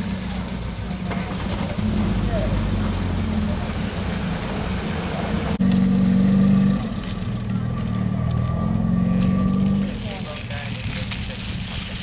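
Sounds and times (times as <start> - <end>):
car engine pulling away: 0.0 - 12.0.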